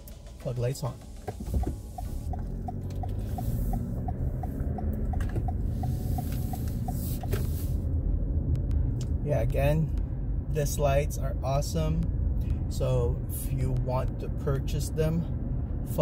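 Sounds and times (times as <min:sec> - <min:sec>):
engine and road rumble: 0:00.0 - 0:16.0
turn signal ticking: 0:00.0 - 0:16.0.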